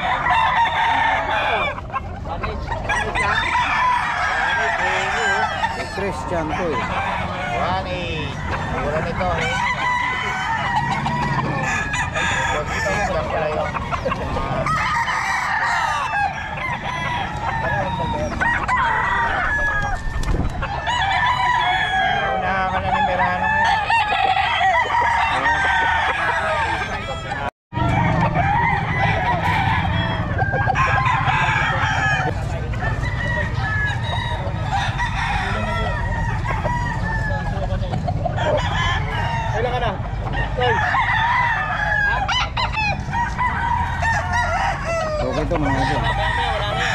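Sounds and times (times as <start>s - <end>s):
roosters crowing and clucking: 0.0s - 46.9s.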